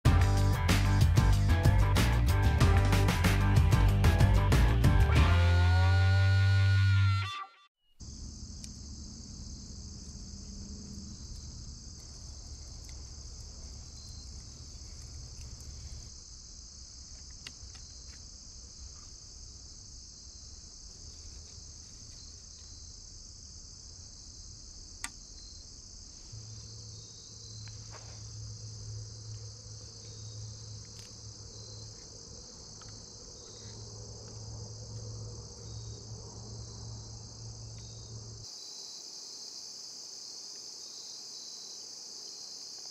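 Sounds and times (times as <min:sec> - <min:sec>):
insects chirping: 0:07.9 - 0:42.9.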